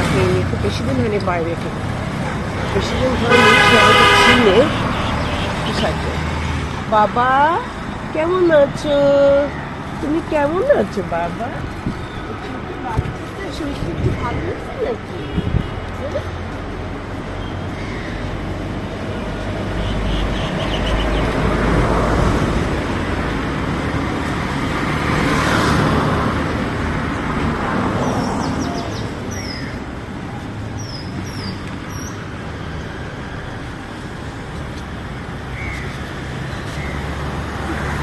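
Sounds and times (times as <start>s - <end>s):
motor vehicles passing by: 0.0s - 38.0s.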